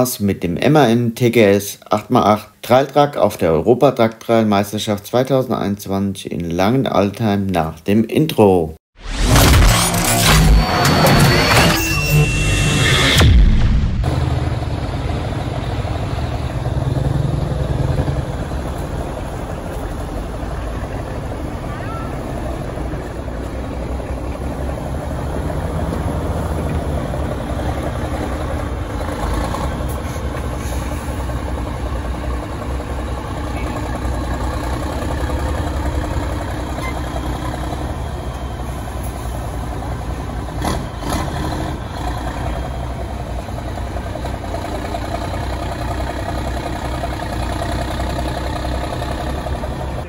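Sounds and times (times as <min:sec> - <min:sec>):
truck diesel engine running: 0:09.7 - 0:50.0.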